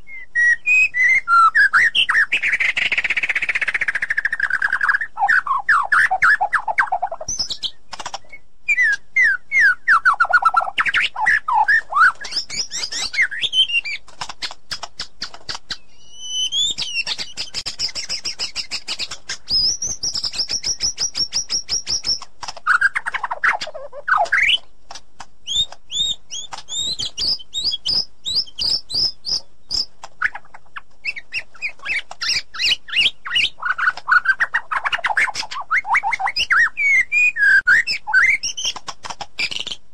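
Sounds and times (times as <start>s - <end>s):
bird singing whistled song: 0.0s - 24.6s, 25.4s - 38.8s.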